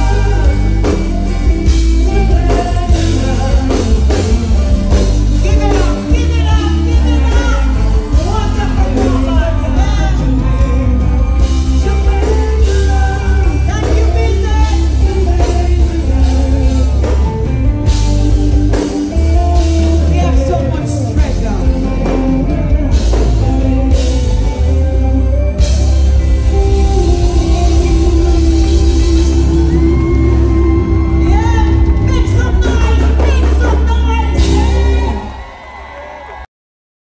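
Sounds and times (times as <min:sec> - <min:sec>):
heavy bass line: 0:00.0 - 0:35.5
band music with singer: 0:00.0 - 0:36.4.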